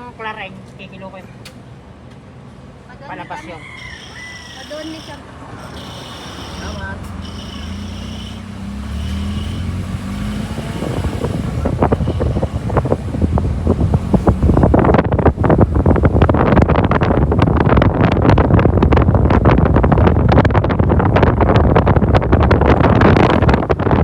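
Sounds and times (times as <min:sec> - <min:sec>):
road noise: 0:00.0 - 0:24.0
car engine: 0:03.8 - 0:24.0
wind buffeting microphone: 0:03.8 - 0:24.0.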